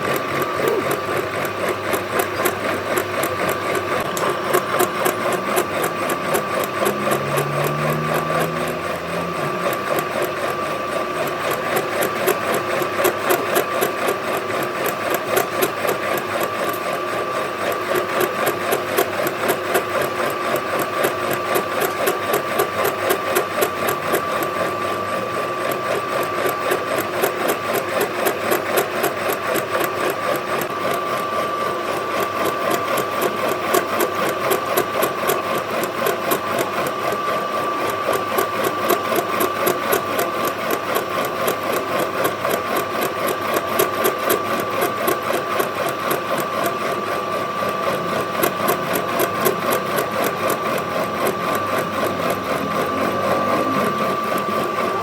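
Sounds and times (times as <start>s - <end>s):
machine high whine: 0.0s - 55.0s.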